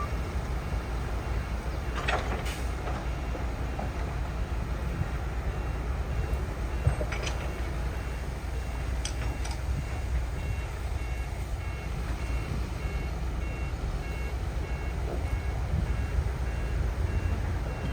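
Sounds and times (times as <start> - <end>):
heavy machinery diesel rumble: 0.0 - 17.9
reversing alarm beeping: 0.0 - 17.9.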